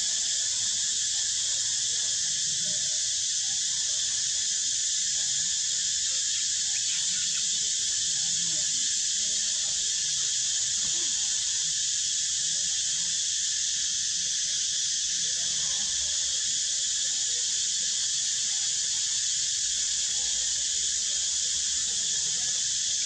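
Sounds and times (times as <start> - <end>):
insect chorus droning: 0.0 - 23.0.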